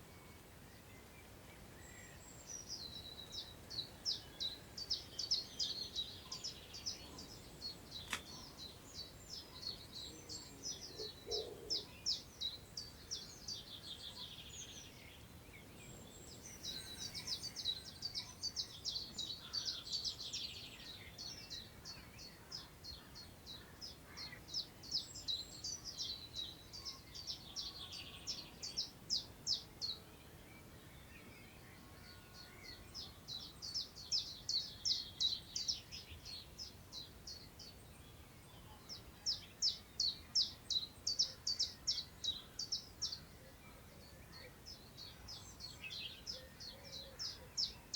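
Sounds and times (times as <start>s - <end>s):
songbirds singing: 0.0s - 47.9s
wind through grass: 0.0s - 47.9s.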